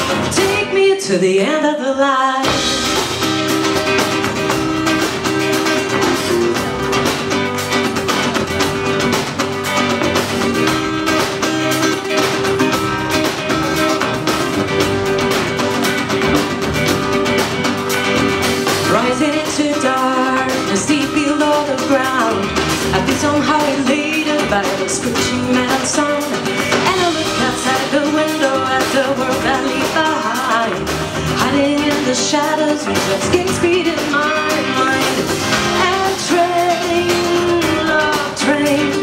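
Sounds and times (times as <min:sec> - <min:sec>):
second guitar: 0:00.0 - 0:01.5, 0:02.4 - 0:39.0
drum kit beat: 0:02.4 - 0:39.0
strummed acoustic guitar: 0:02.4 - 0:39.0.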